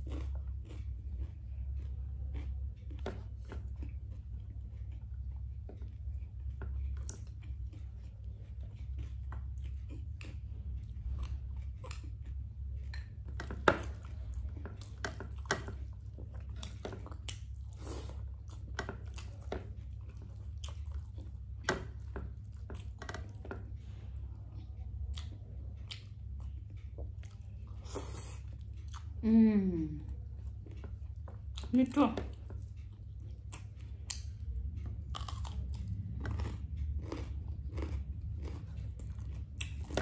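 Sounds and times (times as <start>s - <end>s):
person chewing crunchy food: 0.0s - 29.2s, 30.0s - 40.0s
steady low hum: 0.0s - 40.0s.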